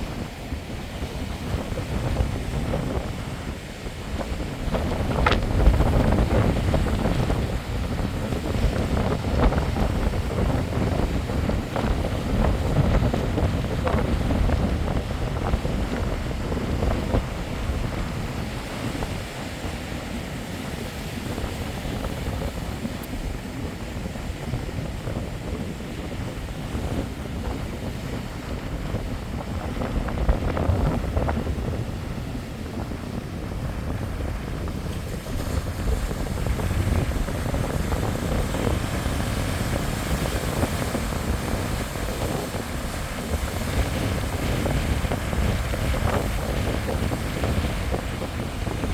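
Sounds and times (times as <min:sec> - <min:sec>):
sea waves breaking on shore: 0:00.0 - 0:48.9
wind buffeting microphone: 0:00.0 - 0:48.9.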